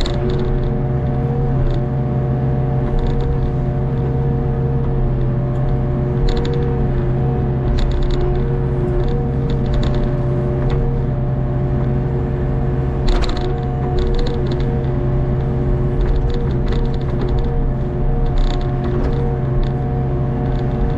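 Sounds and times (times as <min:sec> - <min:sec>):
diesel engine humming: 0:00.0 - 0:20.9
hydraulics whining: 0:00.0 - 0:20.9.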